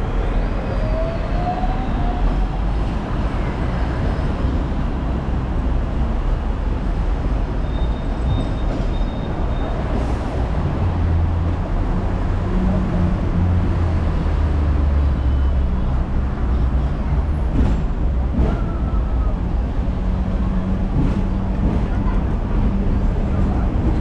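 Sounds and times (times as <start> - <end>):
tram rumbling on tracks: 0.0 - 24.0.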